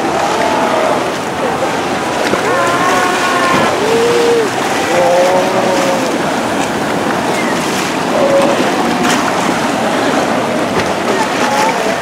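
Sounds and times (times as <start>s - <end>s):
sea lions calling: 0.0s - 12.0s
surf breaking on rocks: 0.0s - 12.0s.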